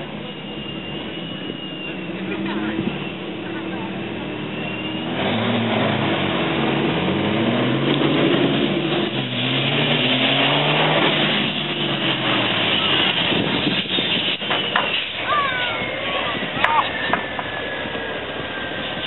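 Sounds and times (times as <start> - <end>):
diesel truck engines accelerating: 0.0 - 19.0.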